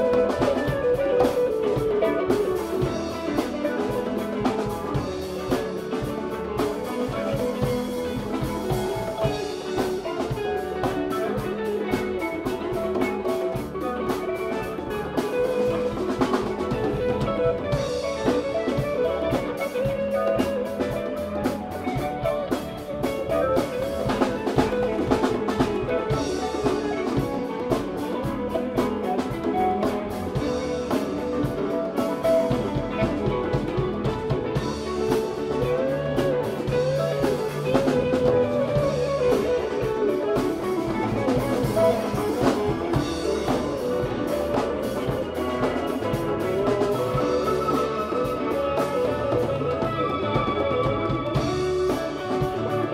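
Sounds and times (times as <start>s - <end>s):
congas: 0.0s - 52.9s
drum kit: 0.0s - 52.9s
electric guitars: 0.0s - 52.9s.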